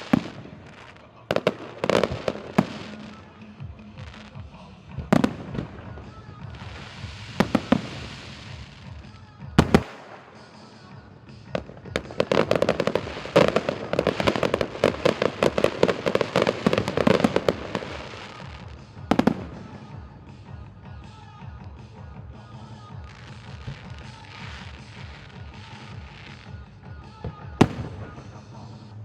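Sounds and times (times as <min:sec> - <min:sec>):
fireworks bangs and popping: 0:00.0 - 0:29.0
music: 0:00.0 - 0:29.0.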